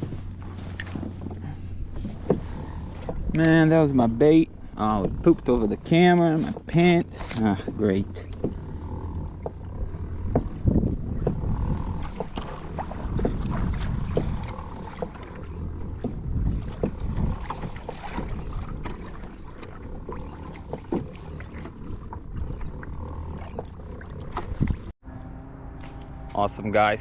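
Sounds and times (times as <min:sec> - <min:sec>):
water splashing around a kayak: 0:00.0 - 0:25.0
wind rumble on microphone: 0:00.0 - 0:27.0.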